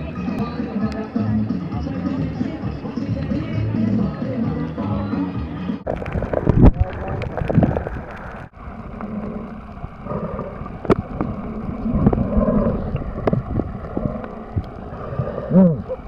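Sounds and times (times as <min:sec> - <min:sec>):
water around a boat: 0:00.0 - 0:16.0
wind: 0:00.0 - 0:16.0.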